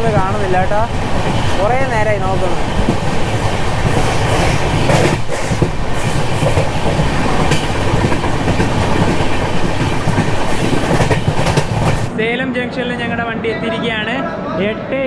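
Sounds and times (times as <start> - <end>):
wheels clacking over rail joints: 0.0 - 12.1
train coach rumbling on rails: 0.0 - 14.9.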